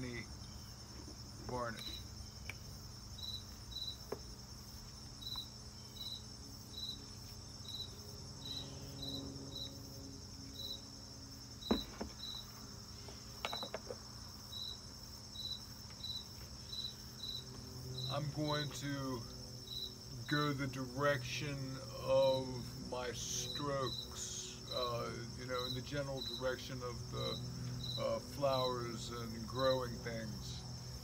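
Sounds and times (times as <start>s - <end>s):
crickets chirping: 0.0s - 31.0s
high insect buzz: 0.0s - 31.0s.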